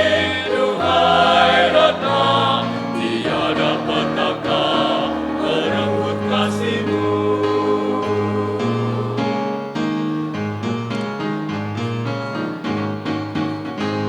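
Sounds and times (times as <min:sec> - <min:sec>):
keyboard playing slow ballad: 0:00.0 - 0:14.0.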